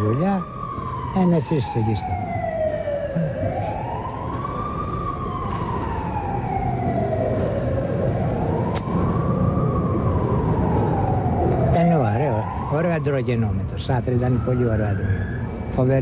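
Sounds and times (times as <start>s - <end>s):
emergency vehicle siren wailing: 0.0s - 16.0s
low background noise: 0.0s - 16.0s.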